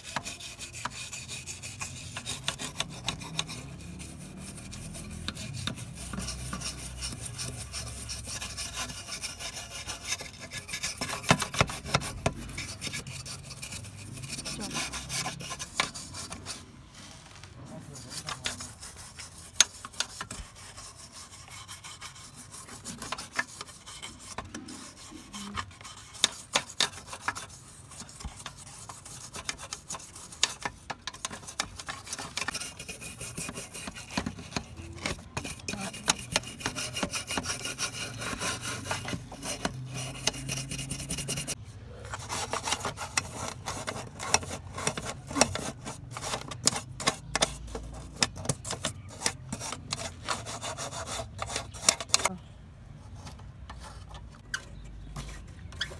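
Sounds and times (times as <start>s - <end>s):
hand rubbing and scraping: 0.0s - 55.9s.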